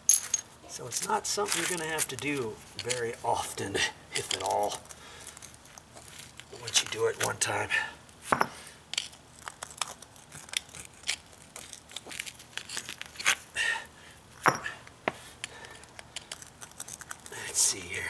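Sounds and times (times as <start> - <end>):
brick pavers clicking and scraping: 0.1 - 13.7, 14.3 - 18.0.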